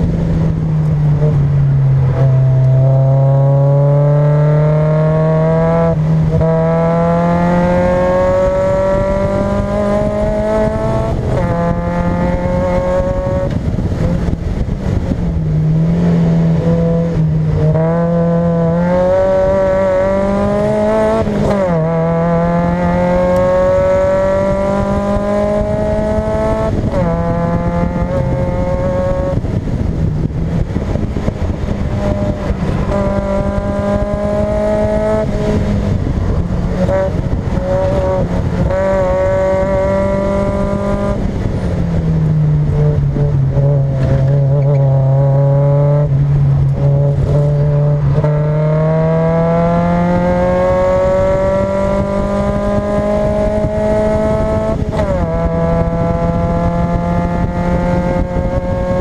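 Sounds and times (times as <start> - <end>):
car engine revving hard: 1.1 - 59.0.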